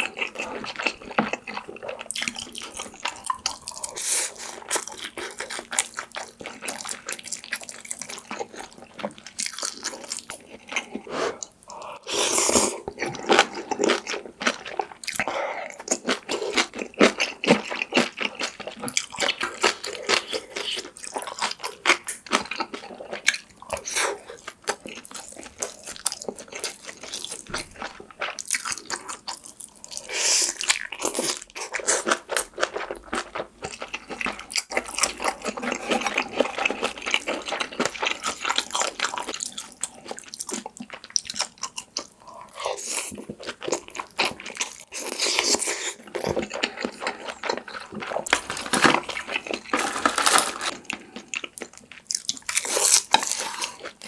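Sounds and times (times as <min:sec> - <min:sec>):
close-miked chewing with crunches: 0:00.0 - 0:54.0.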